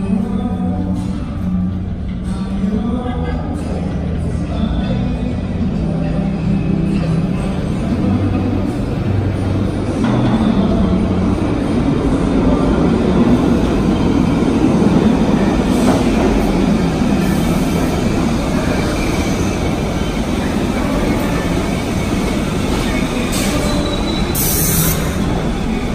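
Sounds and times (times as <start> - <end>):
subway train wheels rumbling: 0.0 - 25.9.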